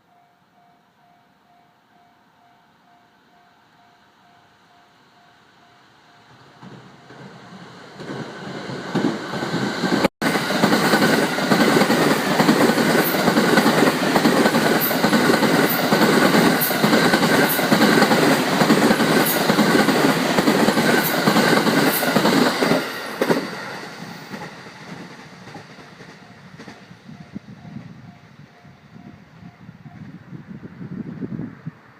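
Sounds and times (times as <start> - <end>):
train rushing past: 2.9 - 31.9.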